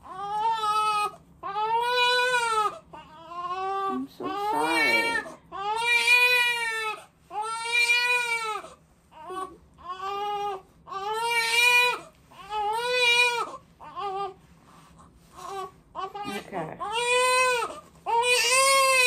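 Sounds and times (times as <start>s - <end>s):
newborn baby crying: 0.0s - 14.4s, 15.4s - 19.0s.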